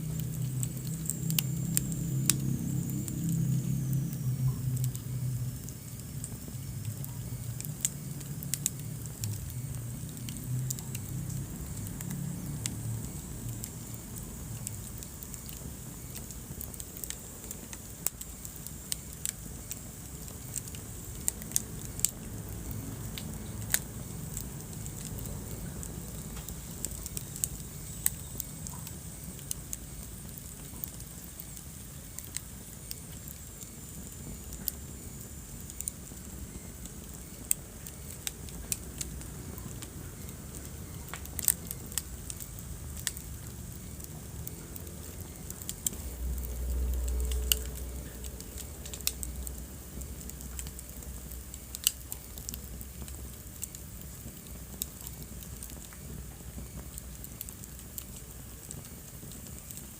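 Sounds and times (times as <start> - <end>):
low rumble of flame: 0.0 - 59.9
wood fire crackling: 0.0 - 59.9.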